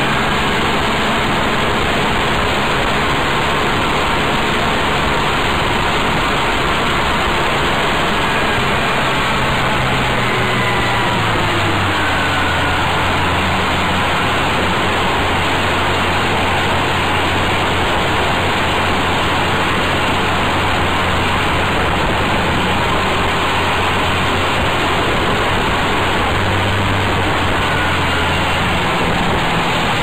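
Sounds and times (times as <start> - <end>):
small engine running: 0.0 - 30.0
wind rushing on microphone: 0.0 - 30.0.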